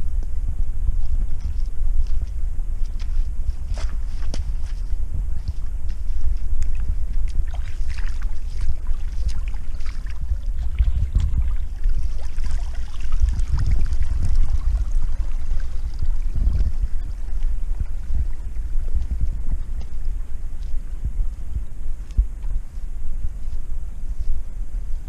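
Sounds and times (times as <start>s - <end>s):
low microphone rumble: 0.0s - 25.0s
footsteps in wet slush: 1.0s - 24.4s.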